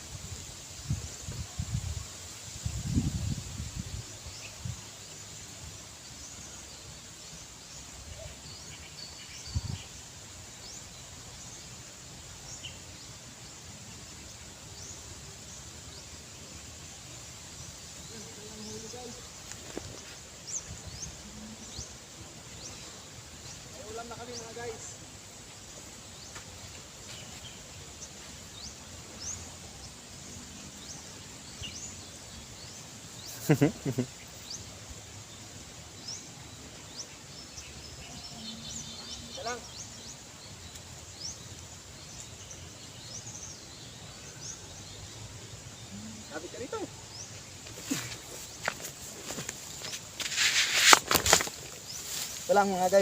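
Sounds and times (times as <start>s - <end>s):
steady background hiss: 0.0s - 53.0s
steady low background noise: 0.0s - 53.0s.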